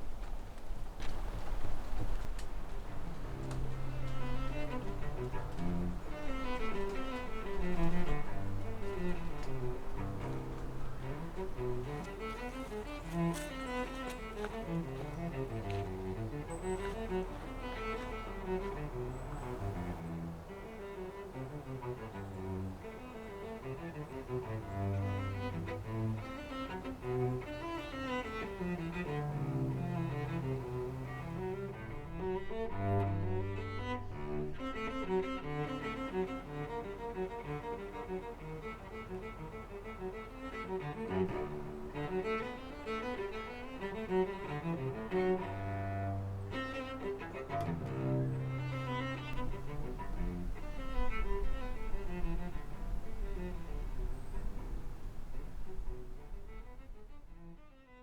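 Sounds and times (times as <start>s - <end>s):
bowed strings music with cello: 0.0s - 58.0s.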